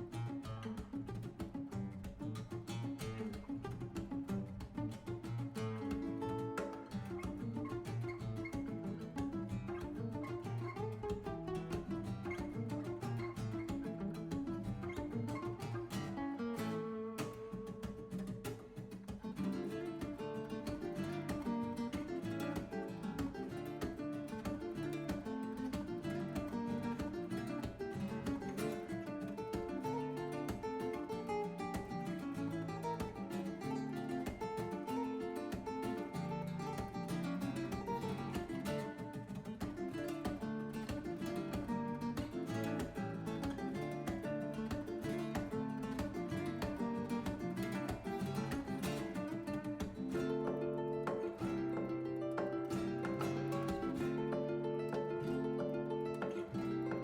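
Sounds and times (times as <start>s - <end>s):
acoustic guitar melody: 0.0s - 57.0s.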